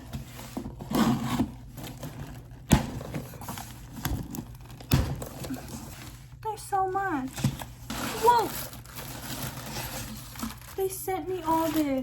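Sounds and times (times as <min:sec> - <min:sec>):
package rustling: 0:01.6 - 0:06.4, 0:07.1 - 0:12.0.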